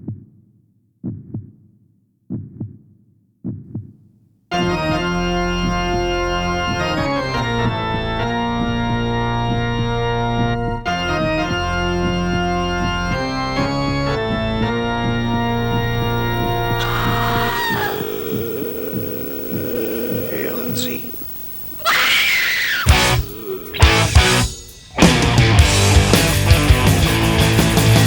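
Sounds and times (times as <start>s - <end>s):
held organ chords: 4.5s - 28.0s.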